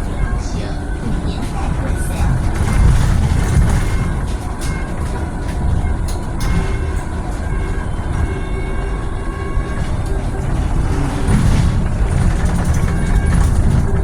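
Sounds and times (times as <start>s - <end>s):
bus rumbling in motion: 0.0s - 14.0s.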